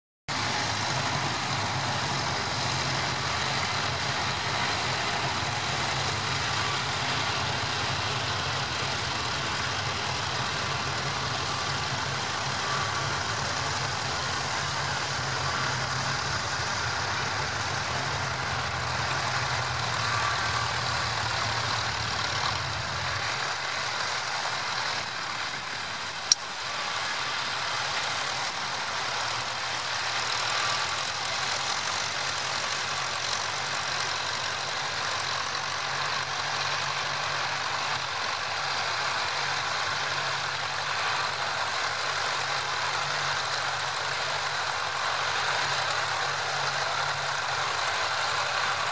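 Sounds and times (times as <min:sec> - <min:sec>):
tractor engines running: 0:00.3 - 0:48.9.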